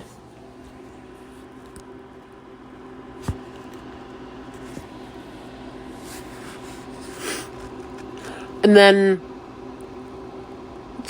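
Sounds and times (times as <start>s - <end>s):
low equipment hum: 0.0s - 11.0s.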